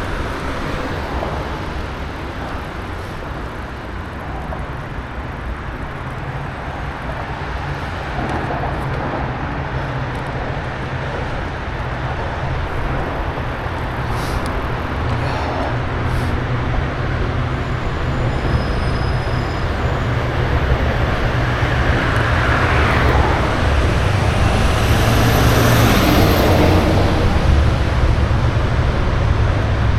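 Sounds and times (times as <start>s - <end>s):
rumbling road noise: 0.0s - 29.9s
vehicle traffic: 0.0s - 29.9s
wind: 0.0s - 29.9s.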